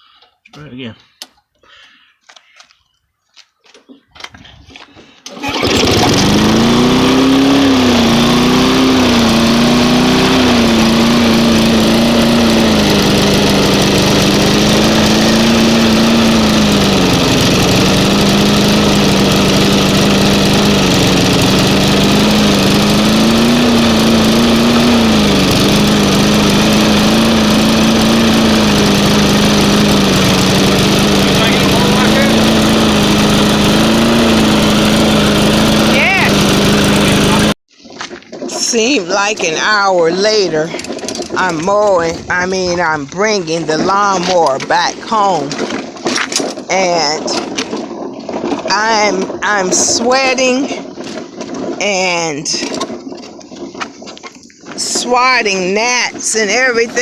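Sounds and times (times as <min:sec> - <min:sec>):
lawnmower engine running: 0:05.3 - 0:57.0.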